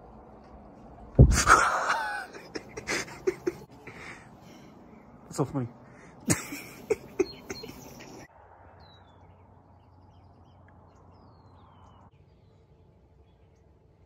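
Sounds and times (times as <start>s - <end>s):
steady outdoor hiss: 0.0s - 14.0s
small birds chirping: 2.3s - 14.0s.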